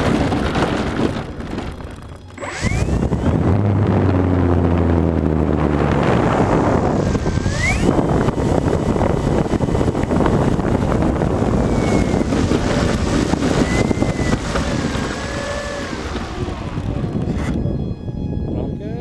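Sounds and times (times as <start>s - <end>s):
wind rushing over microphone: 0.0s - 19.0s
thin motor whine: 0.2s - 18.9s.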